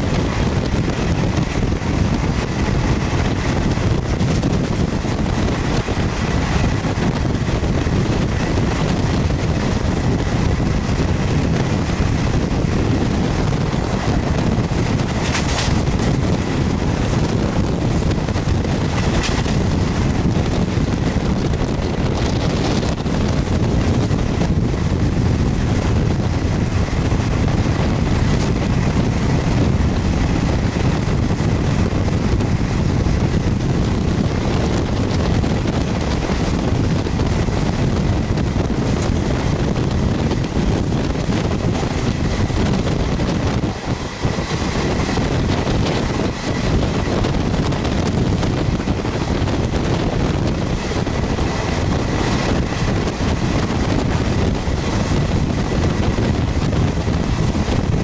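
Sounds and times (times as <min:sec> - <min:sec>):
train rumbling: 0:00.0 - 0:58.0
wind buffeting microphone: 0:00.0 - 0:58.0.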